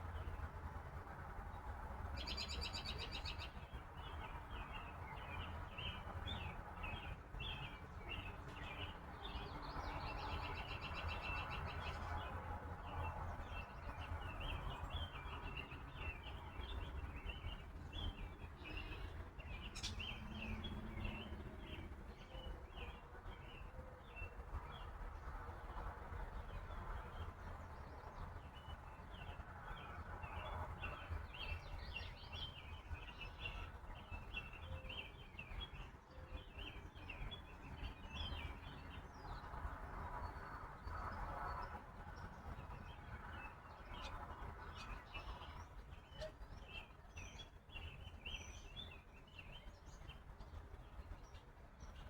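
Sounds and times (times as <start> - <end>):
small birds chirping: 2.2 - 52.0.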